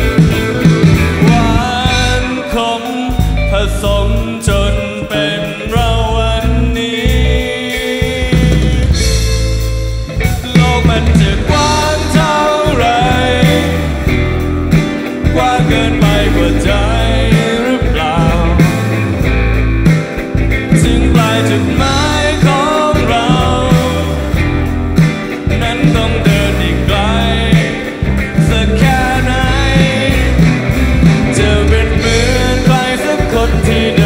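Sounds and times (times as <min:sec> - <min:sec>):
drum kit: 0:00.0 - 0:34.0
electric guitars: 0:00.0 - 0:34.0
man singing: 0:01.0 - 0:19.4, 0:20.6 - 0:34.0.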